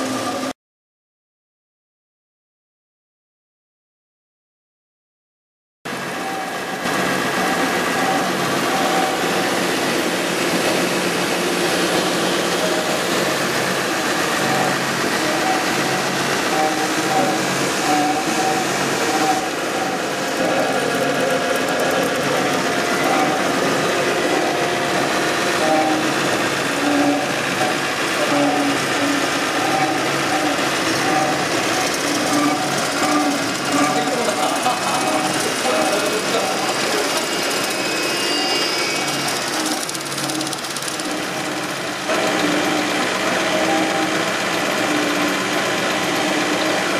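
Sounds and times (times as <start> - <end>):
machine motors humming and hissing: 5.9 - 46.9.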